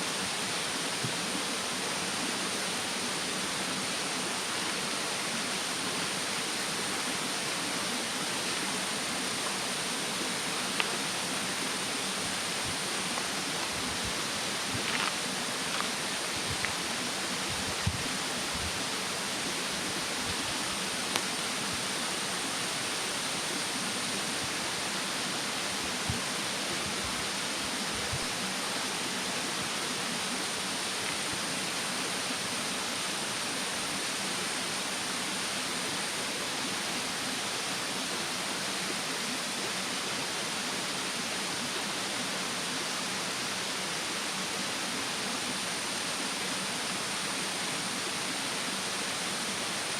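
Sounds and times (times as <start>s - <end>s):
mountain stream rushing: 0.0s - 49.9s
high insect drone: 0.1s - 40.6s.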